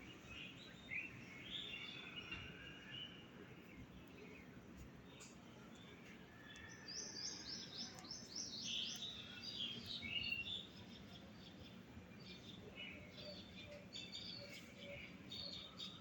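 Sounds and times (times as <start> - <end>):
faint background noise: 0.0 - 16.0
small birds singing and chirping: 0.0 - 16.0.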